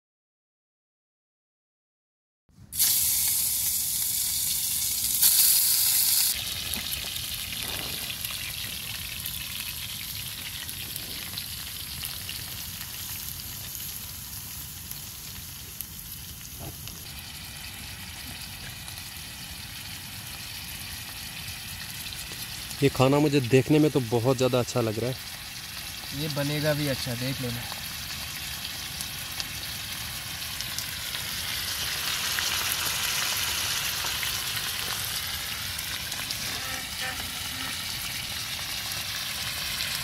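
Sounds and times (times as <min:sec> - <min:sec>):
food frying in hot oil: 0:02.7 - 0:40.0.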